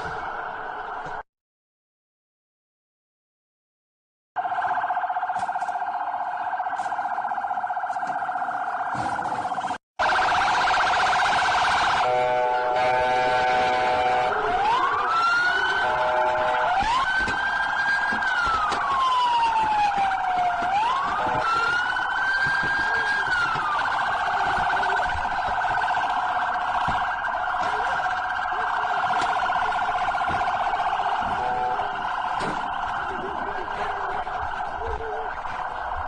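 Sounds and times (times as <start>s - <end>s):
police siren slow wail: 0.0s - 1.2s, 4.4s - 36.0s
police siren fast warble: 4.4s - 36.0s.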